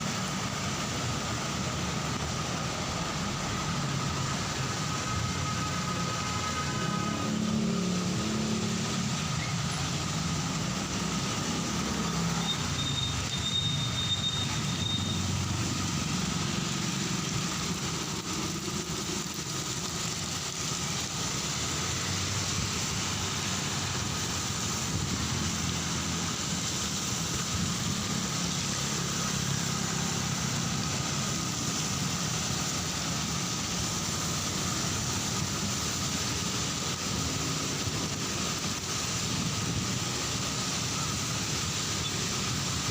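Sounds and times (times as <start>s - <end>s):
heavy rain on street: 0.0s - 42.9s
road traffic rumble: 0.0s - 42.9s.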